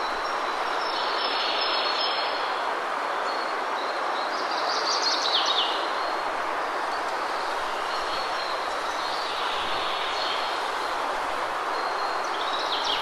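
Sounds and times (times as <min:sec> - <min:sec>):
wind rushing through grass: 0:00.0 - 0:13.0.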